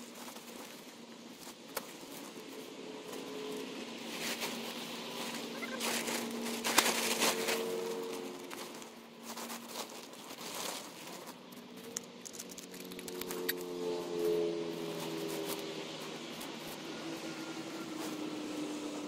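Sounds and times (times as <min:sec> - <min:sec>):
sharp crackle: 0:00.0 - 0:17.4
camping gear rustling and crinkling: 0:00.0 - 0:19.0.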